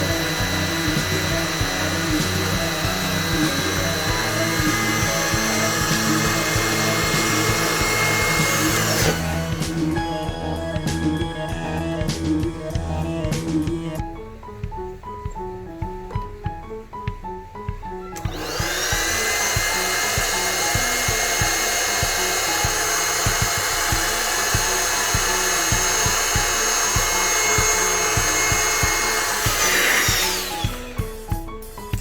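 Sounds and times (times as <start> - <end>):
electric air pump whining: 0.0 - 14.2, 17.7 - 32.0
background music with a beat: 0.0 - 32.0.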